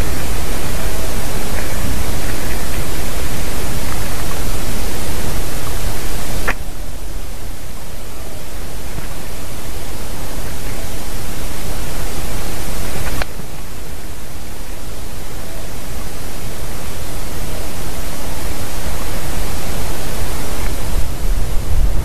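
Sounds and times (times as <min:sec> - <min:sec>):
steady microphone hiss: 0:00.0 - 0:22.0.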